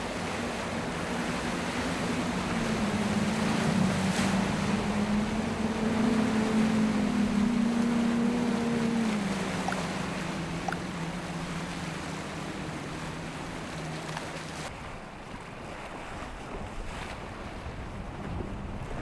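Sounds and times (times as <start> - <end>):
outboard engines droning: 0.0 - 19.0
rushing water and waves: 0.0 - 19.0
wind buffeting microphone: 0.4 - 14.0, 14.6 - 19.0.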